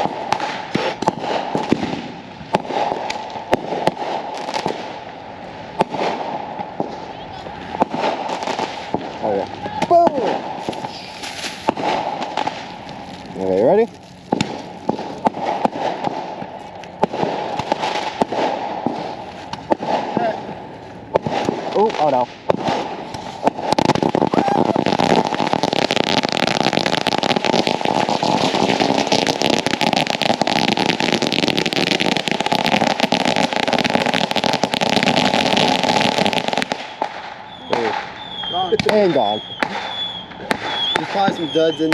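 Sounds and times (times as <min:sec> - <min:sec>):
fireworks bangs: 0:00.0 - 0:41.9
fireworks crackling hiss: 0:00.0 - 0:41.9.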